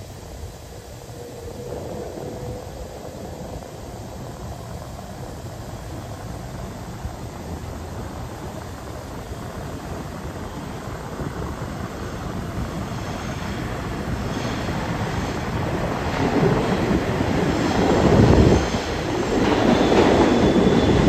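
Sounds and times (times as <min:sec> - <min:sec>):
subway train rumbling in tunnel: 0:00.0 - 0:21.0.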